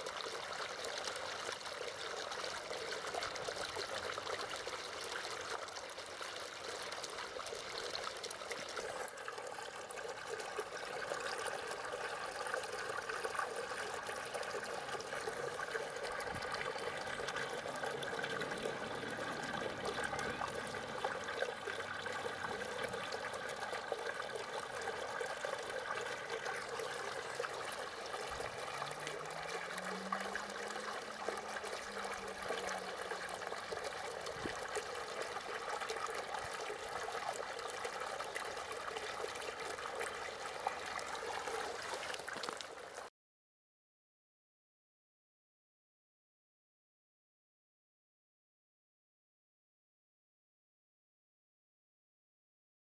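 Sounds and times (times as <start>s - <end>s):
trickling water: 0.0s - 43.1s.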